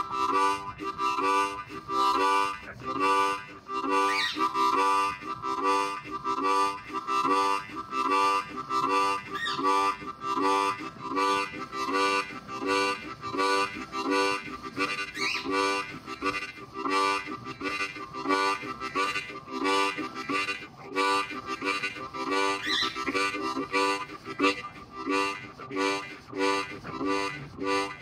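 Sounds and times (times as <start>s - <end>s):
harmonica chugging chords: 0.0s - 28.0s
harmonica high squeals: 0.0s - 28.0s.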